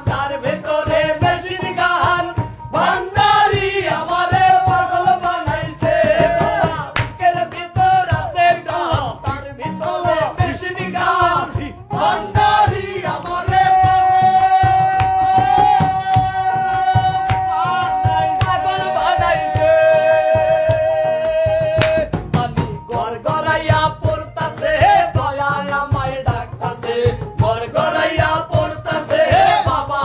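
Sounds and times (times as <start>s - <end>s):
hand drum beat: 0.0s - 30.0s
men singing in a group: 0.0s - 30.0s.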